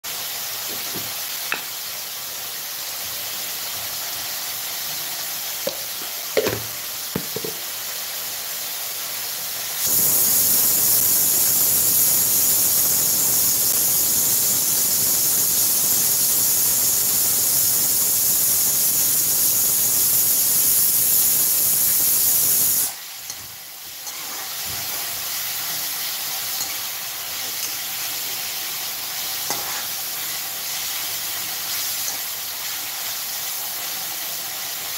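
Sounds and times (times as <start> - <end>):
vegetables sizzling in oil: 0.0 - 34.9
loud steady hiss: 0.1 - 34.9.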